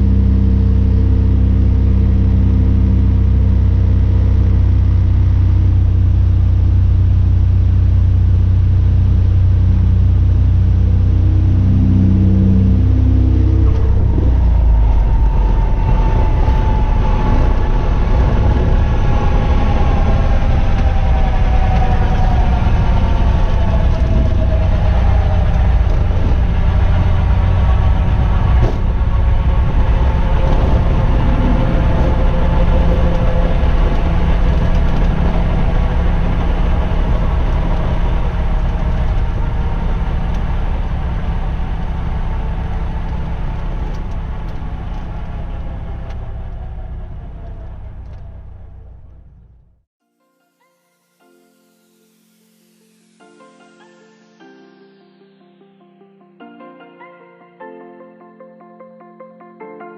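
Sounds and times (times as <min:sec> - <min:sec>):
airplane piston engine and propeller: 0:00.0 - 0:49.4
whine falling in pitch: 0:00.0 - 0:49.5.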